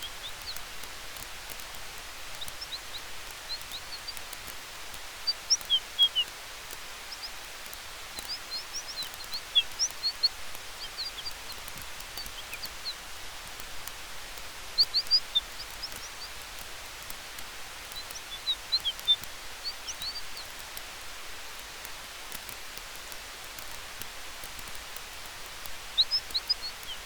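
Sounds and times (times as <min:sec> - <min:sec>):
campfire hissing and crackling: 0:00.0 - 0:27.0.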